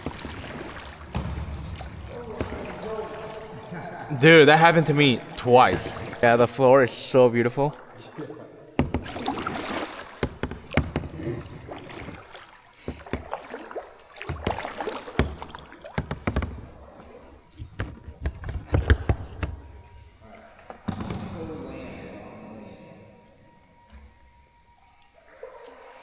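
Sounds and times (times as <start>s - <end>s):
paddles knocking on kayak hulls: 0.0s - 26.0s
paddles splashing in water: 0.0s - 26.0s.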